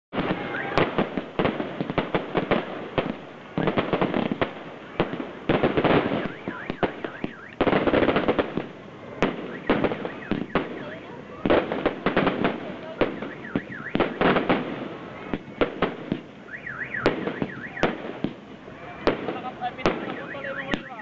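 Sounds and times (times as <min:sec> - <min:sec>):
fireworks crackling bangs: 0:00.1 - 0:21.0
firework whistles: 0:00.2 - 0:02.4, 0:03.5 - 0:08.5, 0:09.2 - 0:21.0.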